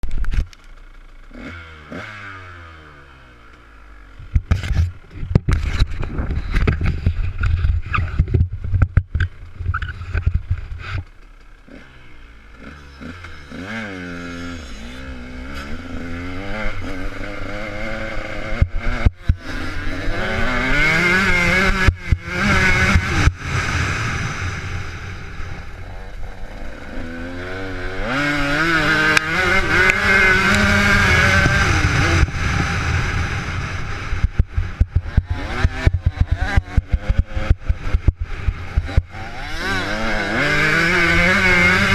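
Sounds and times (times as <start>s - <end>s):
motocross engine revving: 1.1s - 8.3s, 9.5s - 41.9s.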